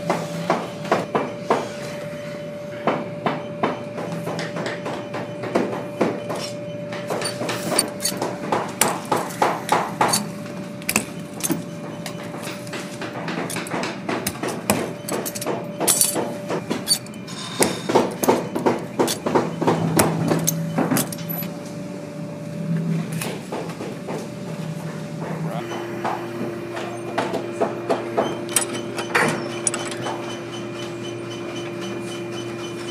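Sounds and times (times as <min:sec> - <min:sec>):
steady hum: 0:00.0 - 0:32.6.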